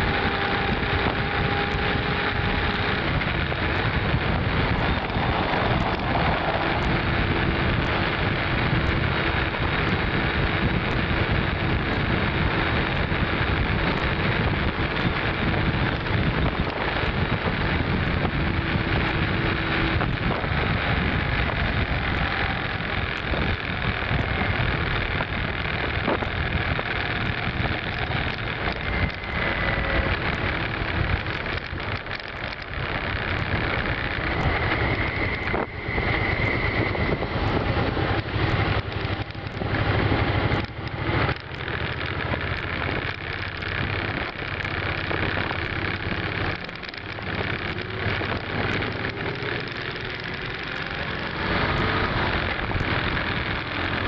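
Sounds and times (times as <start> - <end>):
motorcycle engine and road rumble: 0.0 - 54.0
wind rushing over microphone: 0.0 - 54.0.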